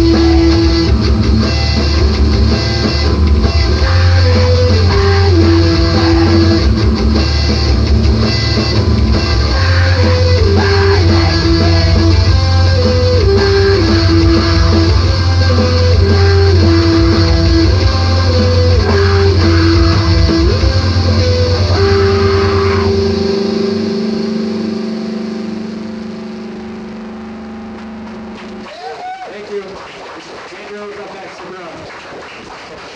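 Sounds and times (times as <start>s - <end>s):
guitar repeating falling figure: 0.0s - 28.6s
heavy bass: 0.0s - 28.8s.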